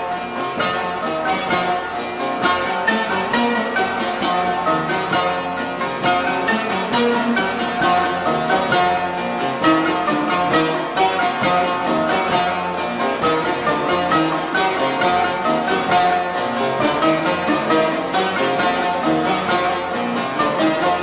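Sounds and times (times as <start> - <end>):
lutes playing folk tune: 0.0 - 21.0.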